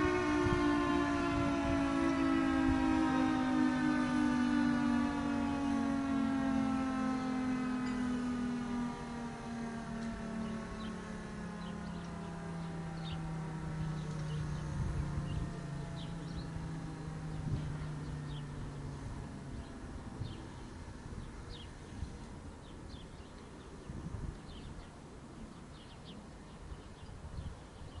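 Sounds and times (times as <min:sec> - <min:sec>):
warning siren winding down: 0:00.0 - 0:22.6
birds chirping: 0:04.8 - 0:28.0.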